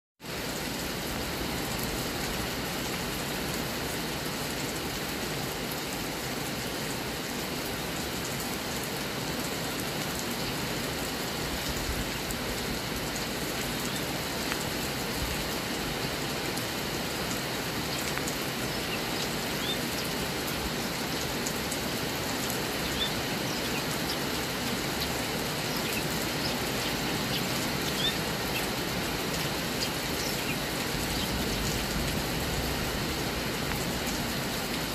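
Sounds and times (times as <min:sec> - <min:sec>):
heavy rain on trees and grass: 0:00.2 - 0:34.9.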